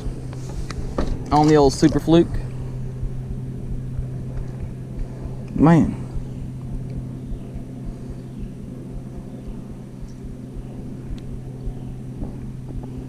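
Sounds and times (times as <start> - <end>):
low mechanical hum: 0.0 - 13.0
wind rumble on microphone: 0.0 - 13.0.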